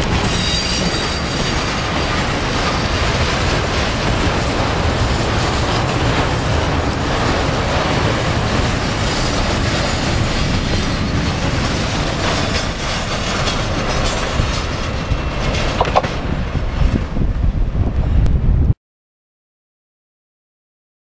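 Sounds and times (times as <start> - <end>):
wheels clacking over rail joints: 0.0 - 17.0
freight train rolling past: 0.0 - 18.7.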